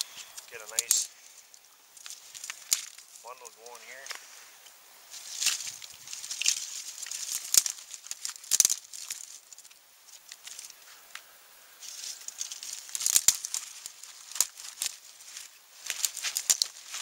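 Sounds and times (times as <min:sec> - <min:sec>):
dry sticks snapping: 0:00.0 - 0:17.0
twigs rustling: 0:00.0 - 0:17.0.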